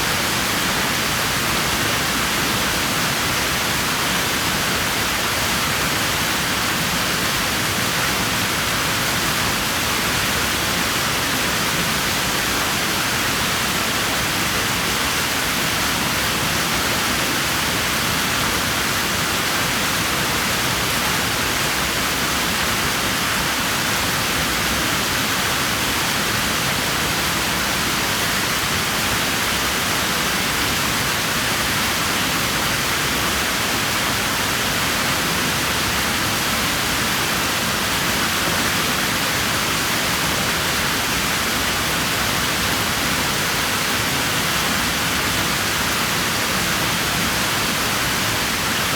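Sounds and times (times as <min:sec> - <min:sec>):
pool water rushing: 0:00.0 - 0:48.9.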